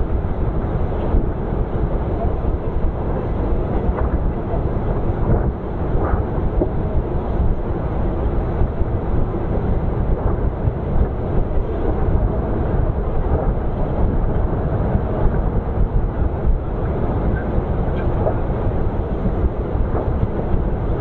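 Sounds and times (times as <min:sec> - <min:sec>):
passenger train running on track: 0:00.0 - 0:21.0.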